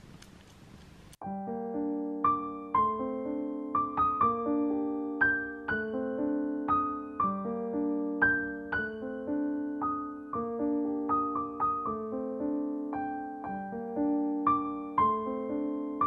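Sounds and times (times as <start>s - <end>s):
piano music: 1.2s - 16.0s.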